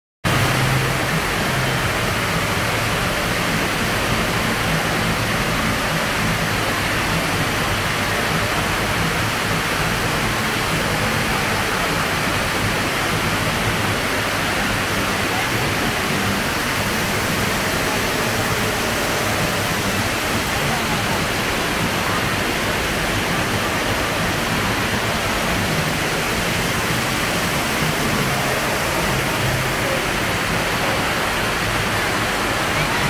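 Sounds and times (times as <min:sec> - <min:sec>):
water falling and splashing: 0:00.3 - 0:33.0.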